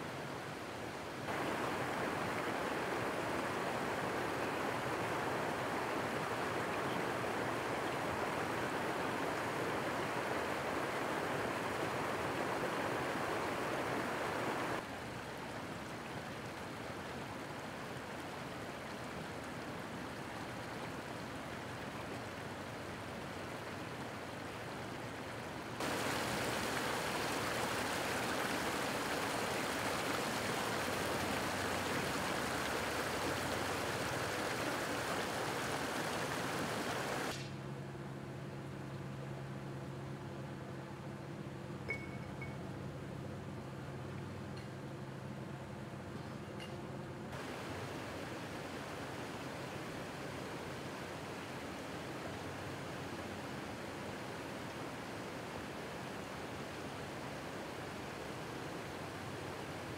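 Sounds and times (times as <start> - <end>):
water rushing from burst main: 0.0 - 37.5, 47.3 - 59.9.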